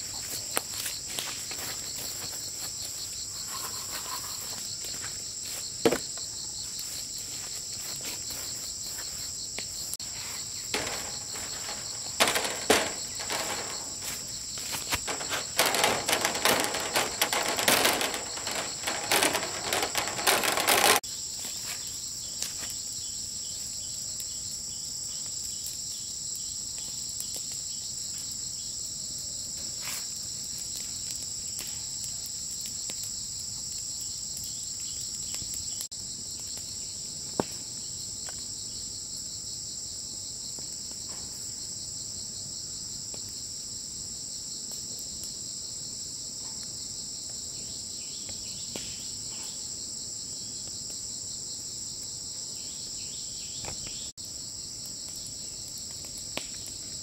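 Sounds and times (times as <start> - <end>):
insect chorus chirring: 0.0 - 44.6, 45.2 - 57.0.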